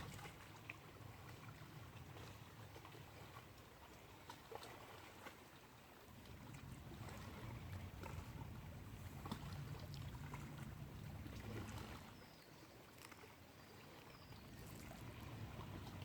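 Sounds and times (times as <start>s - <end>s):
light water sounds: 0.0s - 16.0s.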